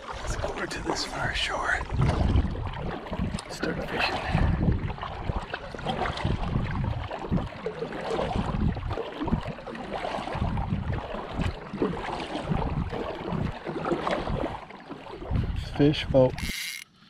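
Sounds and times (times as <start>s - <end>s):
wind rumble on microphone: 0.0s - 16.5s
paddle splashing through water: 0.0s - 16.8s.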